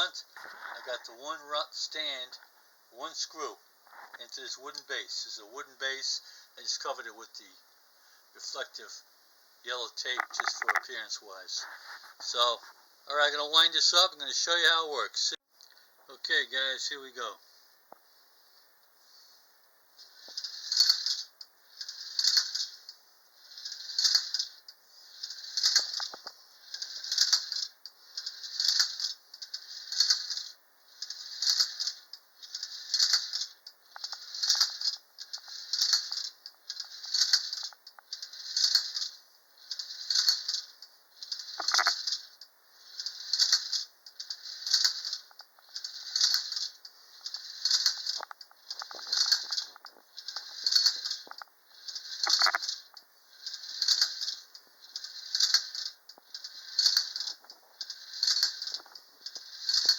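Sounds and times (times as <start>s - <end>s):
wind-up toy tinny rattle: 4.2s - 7.6s, 9.7s - 14.8s, 20.0s - 59.9s.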